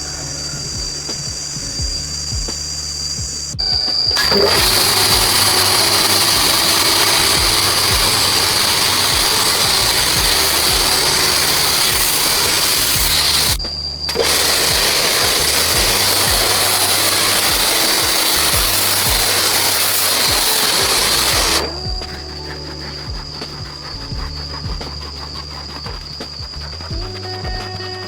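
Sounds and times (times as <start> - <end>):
power tool whining: 0.0 - 28.0.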